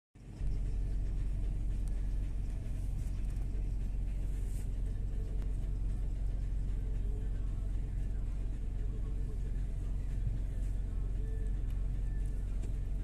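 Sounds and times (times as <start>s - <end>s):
vehicle engine and tyre rumble: 0.2s - 13.0s.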